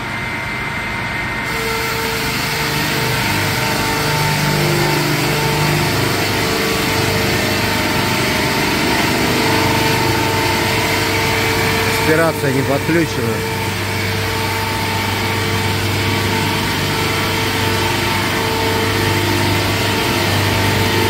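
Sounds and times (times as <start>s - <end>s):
circular saw machine sawing log: 1.4s - 21.0s.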